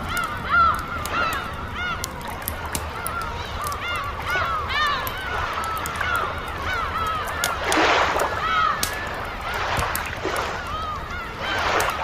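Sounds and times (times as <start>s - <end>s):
campfire crackling: 0.0s - 12.0s
gulls calling: 0.0s - 12.0s.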